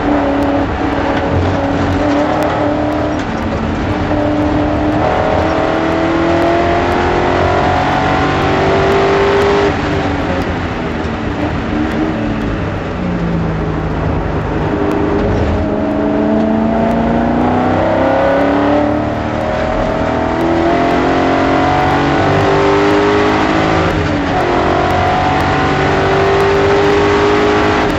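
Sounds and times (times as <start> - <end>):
race car engine accelerating: 0.0 - 27.9.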